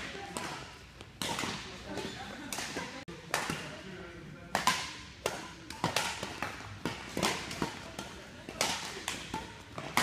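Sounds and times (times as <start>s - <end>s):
rackets hitting shuttlecock: 0.0s - 10.0s.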